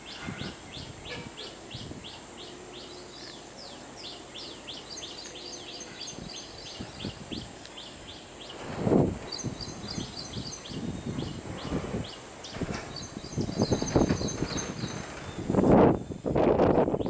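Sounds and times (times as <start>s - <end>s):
high twittering bird call: 0.0s - 17.0s
small birds calling: 0.0s - 17.0s.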